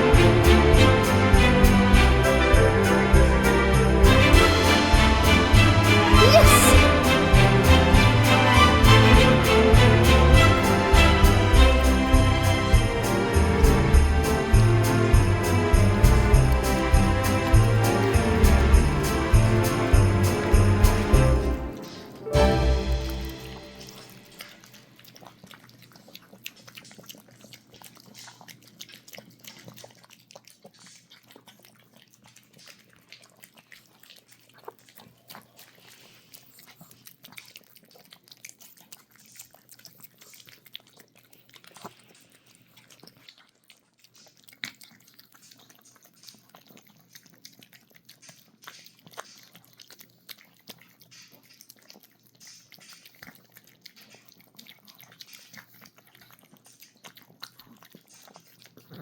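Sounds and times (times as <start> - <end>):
dogs chewing and smacking: 0.0 - 59.0.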